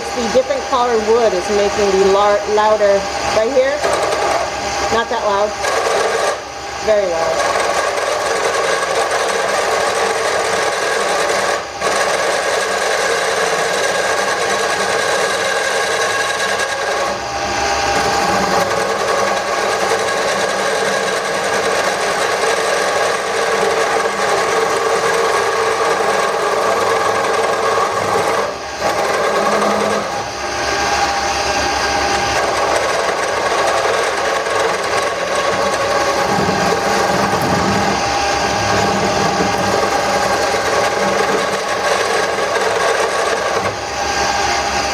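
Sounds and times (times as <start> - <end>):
wood lathe gouge scraping cut: 0.0 - 44.9.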